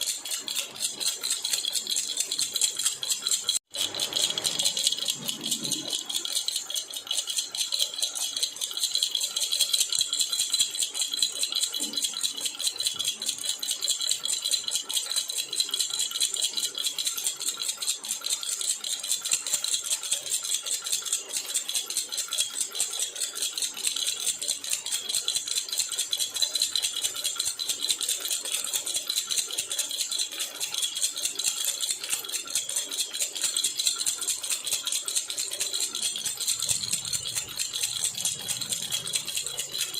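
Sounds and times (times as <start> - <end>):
baby rattle shaken: 0.0 - 21.4, 23.1 - 39.9.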